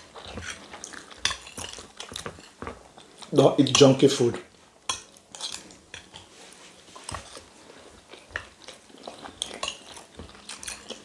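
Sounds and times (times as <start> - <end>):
soft chewing: 0.0 - 3.8, 4.4 - 11.0.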